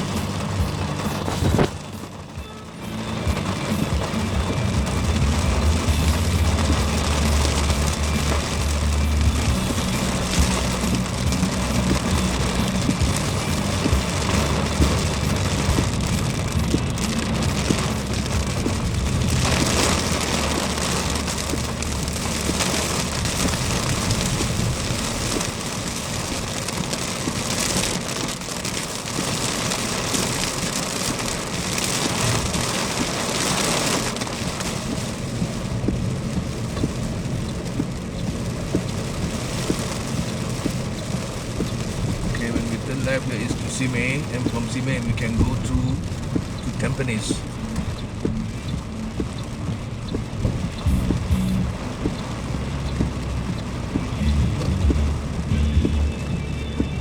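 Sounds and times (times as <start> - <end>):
car engine running: 0.0 - 57.0
heavy rain on a car: 0.0 - 57.0.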